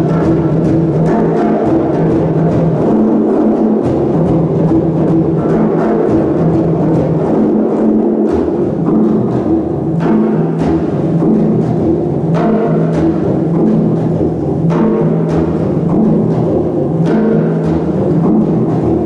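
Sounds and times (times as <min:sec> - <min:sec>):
drum ensemble playing: 0:00.0 - 0:19.0.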